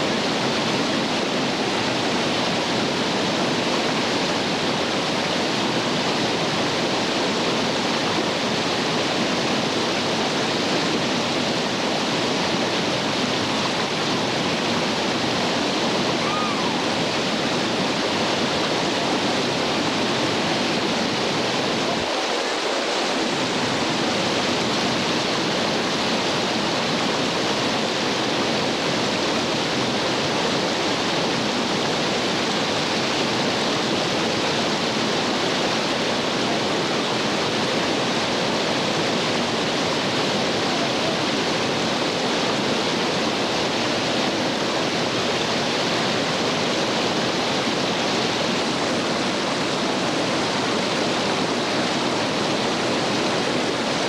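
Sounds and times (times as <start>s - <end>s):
creek rapids rushing: 0.0s - 54.0s.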